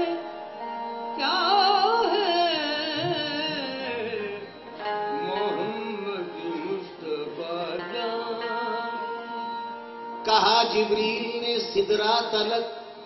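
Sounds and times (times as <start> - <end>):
harmonium held notes: 0.0 - 13.0
person singing ornamented phrases: 1.2 - 12.8.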